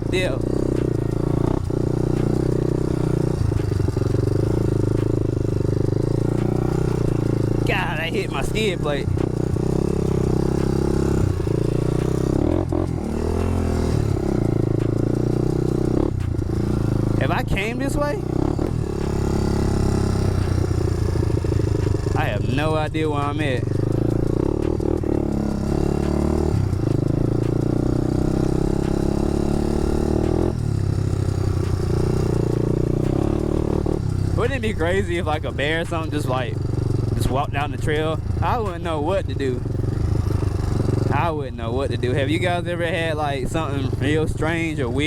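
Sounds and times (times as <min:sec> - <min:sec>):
atv engine running: 0:00.0 - 0:45.0.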